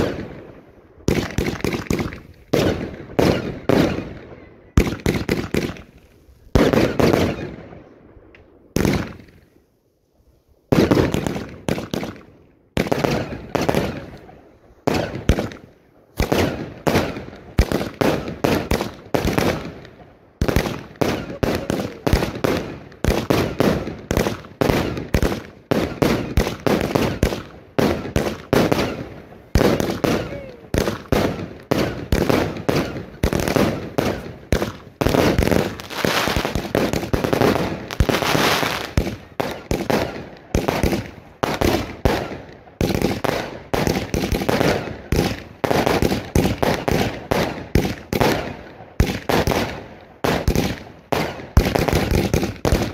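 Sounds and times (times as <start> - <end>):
fireworks bangs: 0.0 - 8.0, 8.7 - 9.5, 10.7 - 52.9.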